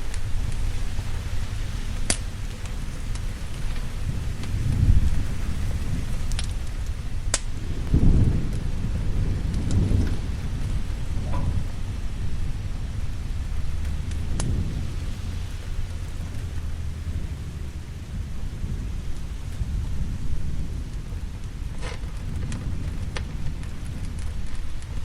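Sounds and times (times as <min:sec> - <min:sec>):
heavy rain: 0:00.0 - 0:25.0
rolling thunder: 0:00.0 - 0:25.0
sharp crackles: 0:00.0 - 0:25.0.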